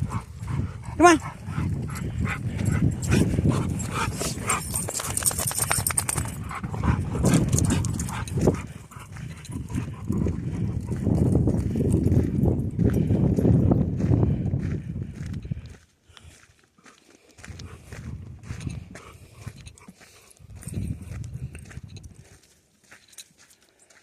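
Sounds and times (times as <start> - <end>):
wind rumbling on microphone: 0.0 - 15.8, 17.4 - 19.7, 20.4 - 22.4
footsteps crunching on gravel: 0.0 - 24.0.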